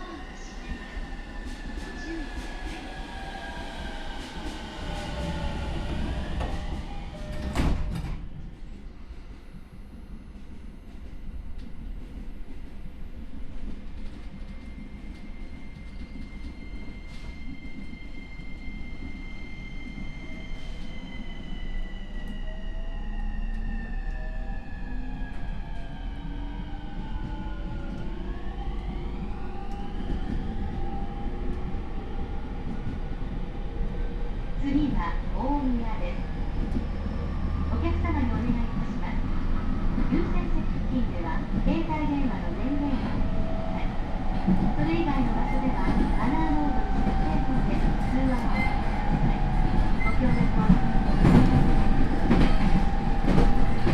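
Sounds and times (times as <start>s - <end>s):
train car hum with whining tones: 0.0s - 53.9s.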